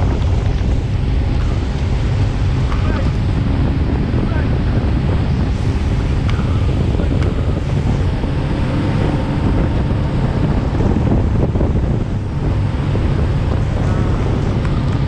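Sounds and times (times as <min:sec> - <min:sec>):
boat engine: 0:00.0 - 0:15.0
water noise: 0:00.0 - 0:15.0
wind rushing over microphone: 0:00.0 - 0:15.0.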